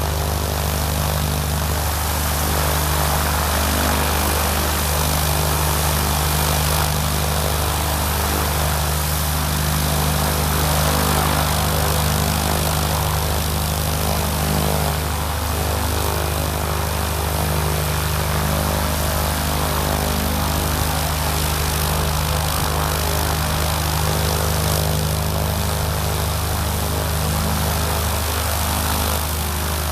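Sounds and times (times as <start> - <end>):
propeller aircraft engine running: 0.0 - 29.9.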